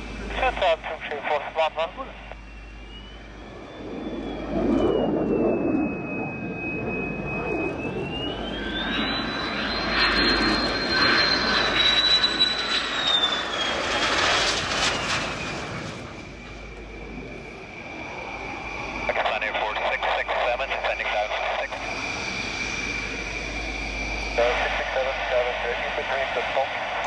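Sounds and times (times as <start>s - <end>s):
jet engine high whine: 0.0s - 27.0s.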